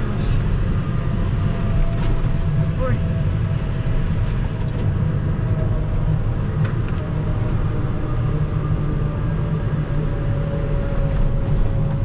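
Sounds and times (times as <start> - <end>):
engine rumble: 0.0 - 12.0
road noise: 0.0 - 12.0.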